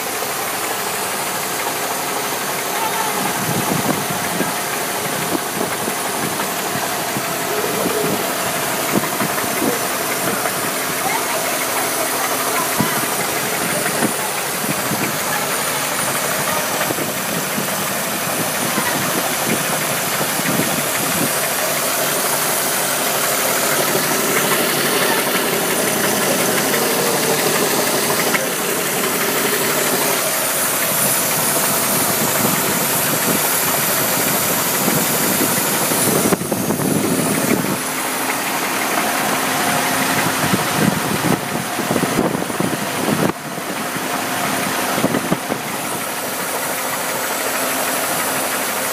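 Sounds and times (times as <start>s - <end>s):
car engine idling: 0.0s - 48.9s
engine knocking: 0.0s - 48.9s.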